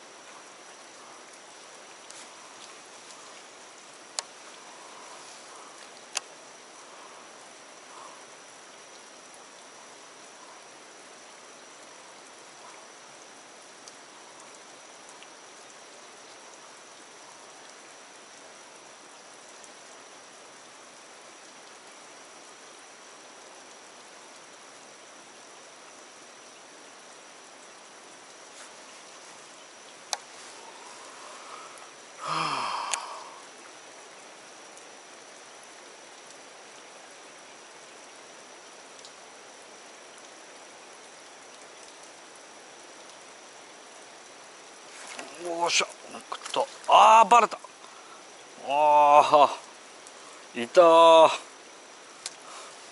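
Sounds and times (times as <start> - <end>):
light rain on water: 0.0 - 52.9.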